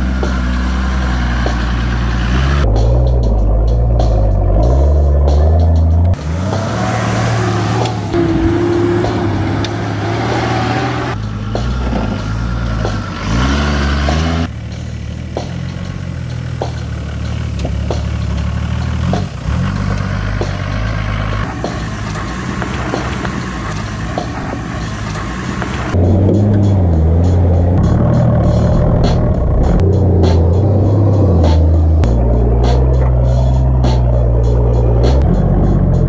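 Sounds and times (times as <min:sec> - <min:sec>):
off-road vehicle engines at low revs: 0:00.0 - 0:36.0.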